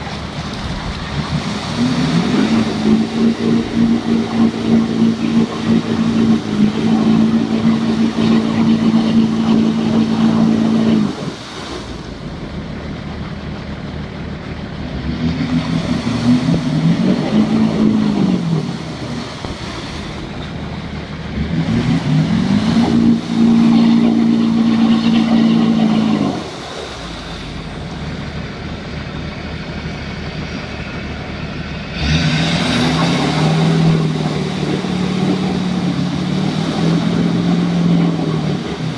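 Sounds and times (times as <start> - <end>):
engine revving: 0.0 - 12.9, 14.6 - 28.9, 29.5 - 38.9
wheels churning through mud: 0.0 - 38.9.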